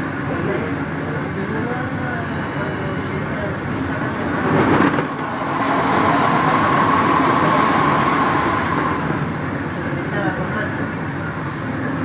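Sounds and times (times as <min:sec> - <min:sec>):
metro train running noise: 0:00.0 - 0:12.0
passing metro train: 0:00.0 - 0:12.0
steady whine: 0:00.0 - 0:12.0.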